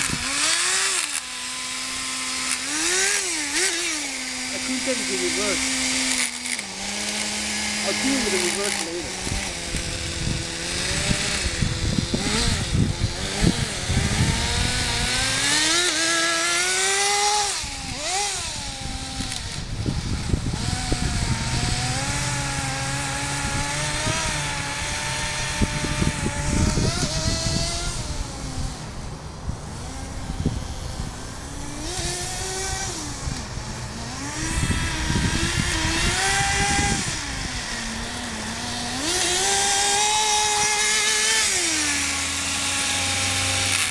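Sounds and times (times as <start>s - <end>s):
model nitro engine revving: 0.0s - 43.9s.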